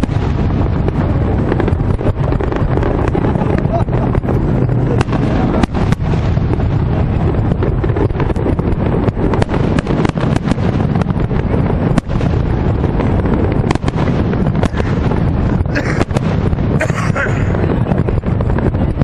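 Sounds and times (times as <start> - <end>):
fireworks bangs and crackles: 0.0 - 19.0
low rumble of distant explosions: 0.0 - 19.0.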